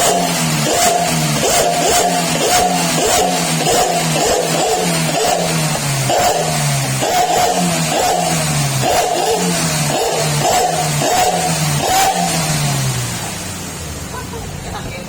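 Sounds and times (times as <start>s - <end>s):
engine revving with snoring exhaust: 0.0s - 13.8s.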